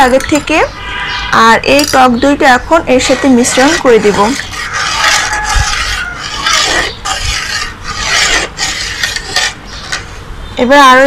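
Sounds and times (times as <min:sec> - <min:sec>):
metal utensil scraping metal bowl: 0:00.0 - 0:10.2.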